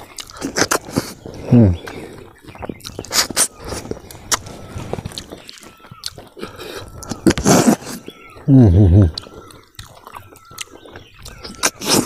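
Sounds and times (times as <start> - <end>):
person chewing and sucking fish: 0.0 - 12.0.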